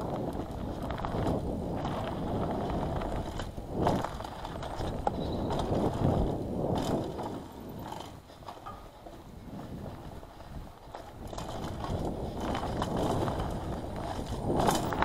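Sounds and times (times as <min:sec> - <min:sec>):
bike knocking on bumps: 0:00.0 - 0:15.0
bike tyres rumbling on dirt: 0:00.0 - 0:15.0.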